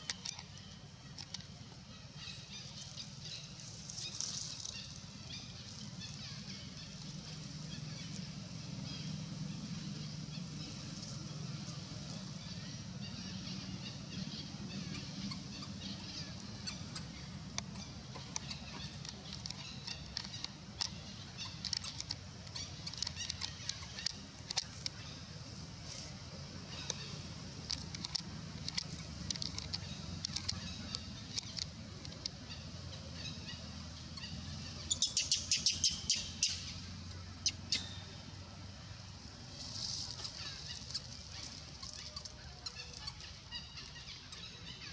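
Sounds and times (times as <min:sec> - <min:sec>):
birds chirping: 0:00.0 - 0:44.9
steady low hum: 0:00.0 - 0:44.9.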